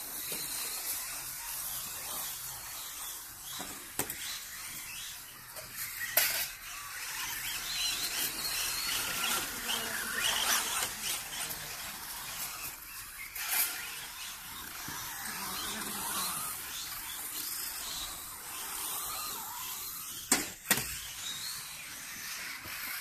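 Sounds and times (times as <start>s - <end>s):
high motor whine: 0.0s - 23.0s.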